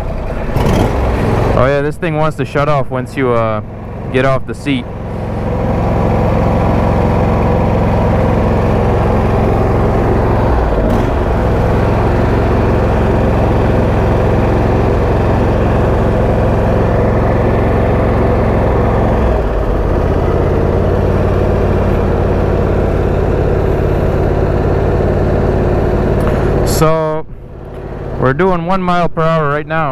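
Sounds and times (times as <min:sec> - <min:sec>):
lawn tractor engine idling: 0:00.0 - 0:29.4.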